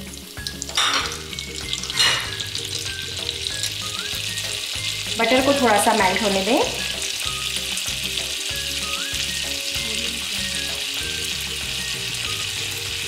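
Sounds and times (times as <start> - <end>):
butter sizzling in a pan: 0.0 - 13.0.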